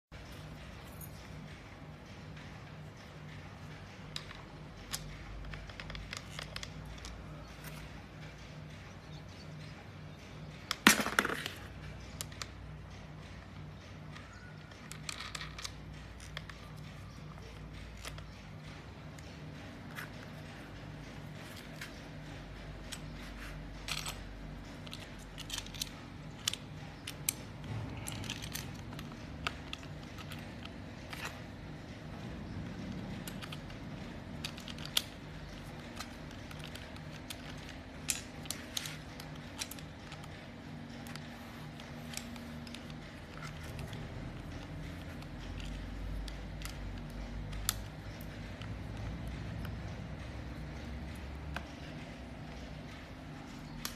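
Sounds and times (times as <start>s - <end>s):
low steady hum: 0.1s - 53.9s
small metal parts clicking: 0.2s - 53.9s.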